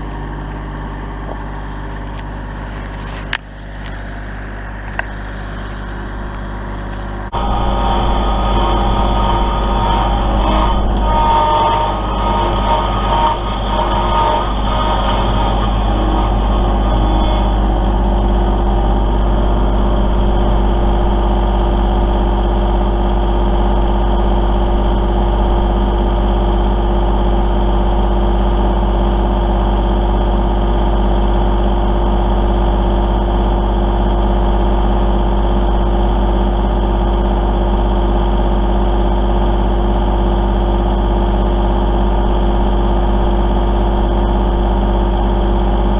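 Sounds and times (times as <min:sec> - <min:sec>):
tractor diesel engine running: 0:00.0 - 0:45.9
clatter: 0:01.2 - 0:45.9.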